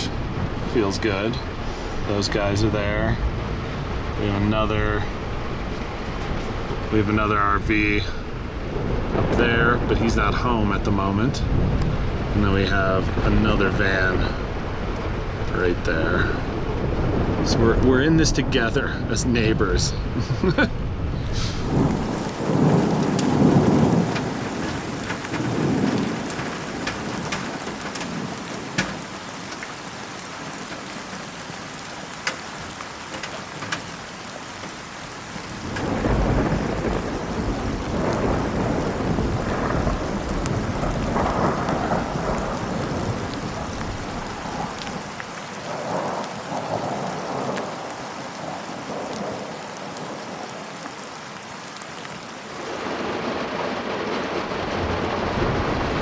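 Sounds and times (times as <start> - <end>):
rolling thunder: 0.0 - 50.6, 52.4 - 56.0
heavy rain falling: 0.0 - 56.0.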